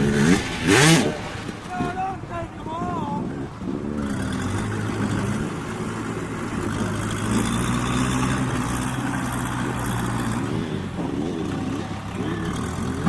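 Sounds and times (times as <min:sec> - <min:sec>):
dirt bike engine running: 0:00.0 - 0:02.1, 0:02.7 - 0:13.0.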